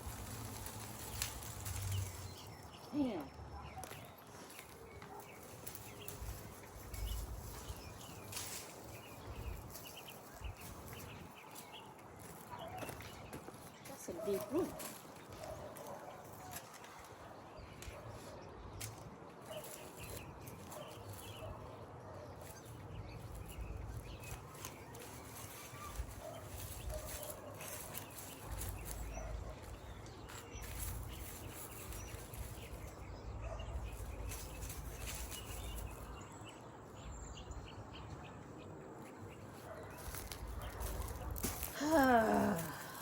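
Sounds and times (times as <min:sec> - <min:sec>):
plants and soil rustling: 0:00.0 - 0:36.3, 0:39.0 - 0:43.0.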